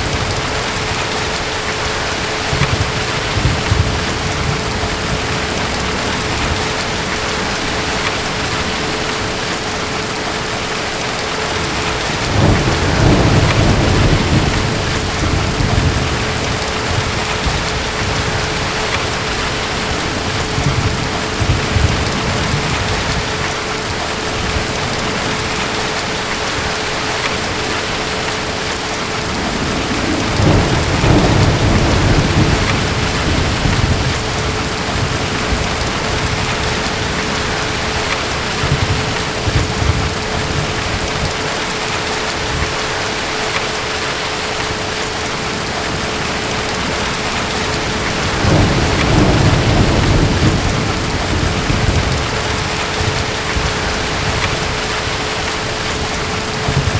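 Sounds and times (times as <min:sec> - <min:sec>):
distant thunder rumbling: 0:00.0 - 0:43.1, 0:45.0 - 0:56.9
heavy rain: 0:00.0 - 0:56.9.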